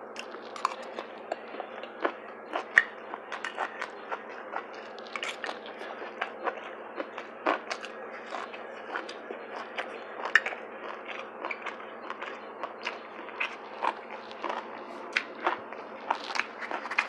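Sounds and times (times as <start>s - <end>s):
person chewing crunchy food: 0.1s - 17.0s.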